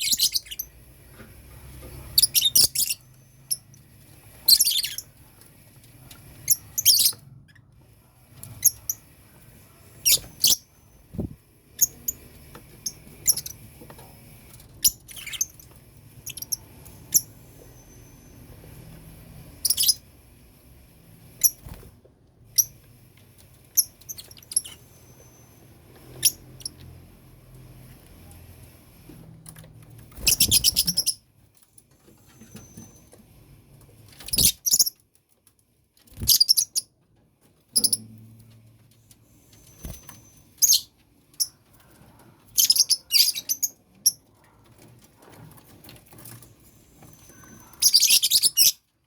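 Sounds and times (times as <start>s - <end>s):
birds chirping and squeaking: 0.0s - 35.2s, 36.0s - 37.0s, 37.6s - 48.9s.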